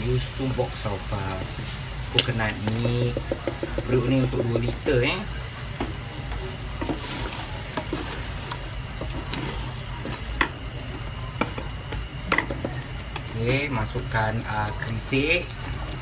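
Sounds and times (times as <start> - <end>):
spice paste sizzling in a pot: 0.0 - 15.6
wooden spoon stirring: 0.2 - 16.0.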